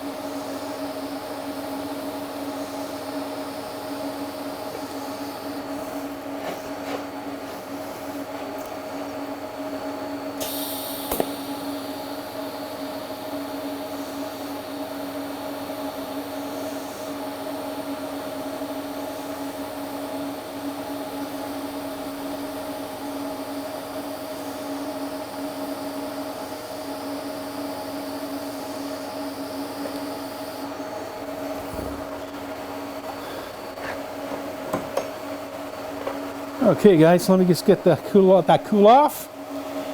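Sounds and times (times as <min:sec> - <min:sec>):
welder humming and hissing: 0:00.0 - 0:39.9.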